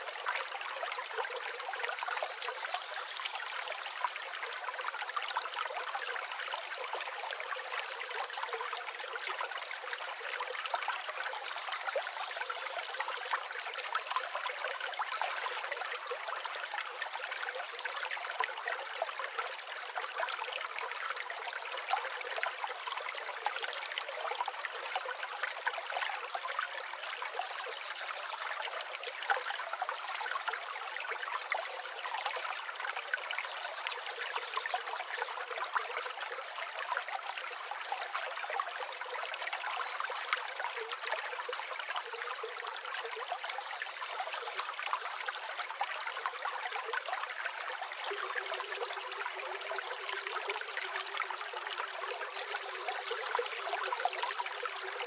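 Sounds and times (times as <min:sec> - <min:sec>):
river water flowing and babbling: 0:00.0 - 0:55.0.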